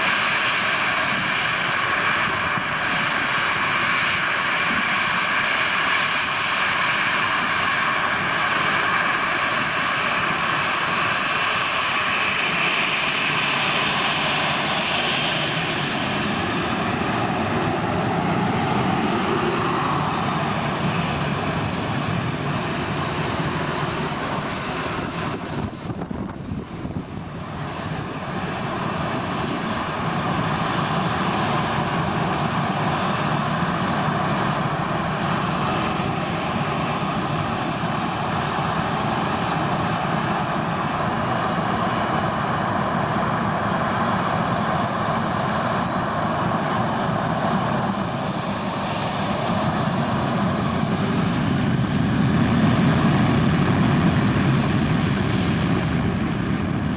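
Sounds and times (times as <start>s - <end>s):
jet engines running: 0.0s - 56.9s.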